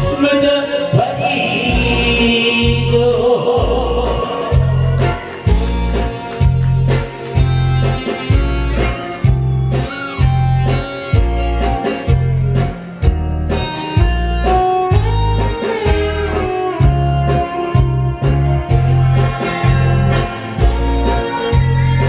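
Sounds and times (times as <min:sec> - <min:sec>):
pulsing bass line: 0:01.4 - 0:22.0
guitar-like lead melody: 0:03.8 - 0:22.0.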